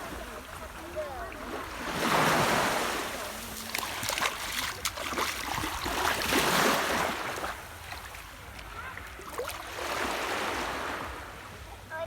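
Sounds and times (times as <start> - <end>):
sea water splashing: 0.0 - 11.4
small waves washing in: 0.0 - 12.0.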